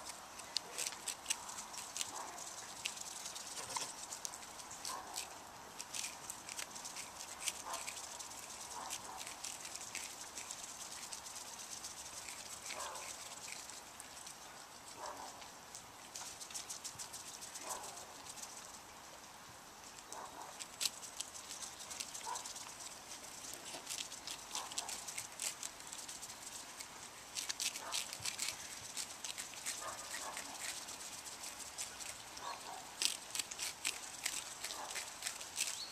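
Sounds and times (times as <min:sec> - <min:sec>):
swan tearing grass: 0:00.0 - 0:14.2, 0:20.4 - 0:35.9.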